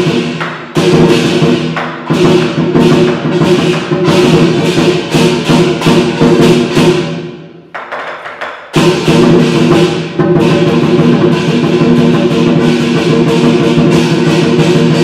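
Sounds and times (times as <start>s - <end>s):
music with drums: 0.0s - 15.0s.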